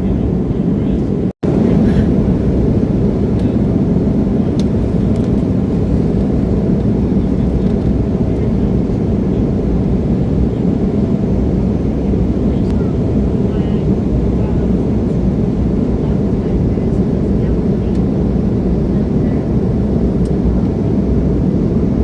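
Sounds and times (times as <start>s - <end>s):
jet cabin engine rumble: 0.0s - 22.0s.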